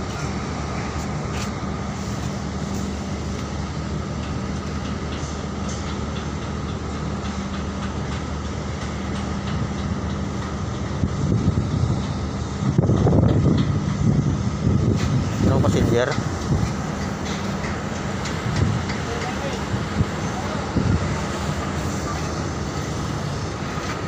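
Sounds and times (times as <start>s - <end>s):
ship engines droning: 0.0s - 24.0s.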